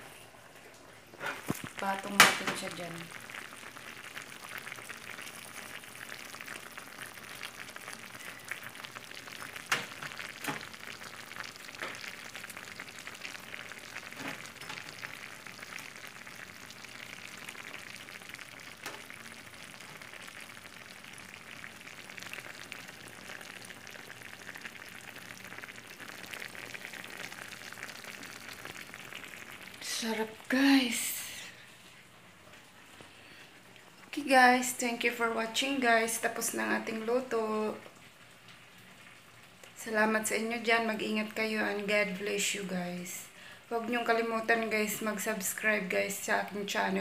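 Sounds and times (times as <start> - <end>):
stew sizzling in a frying pan: 0.0 - 47.0.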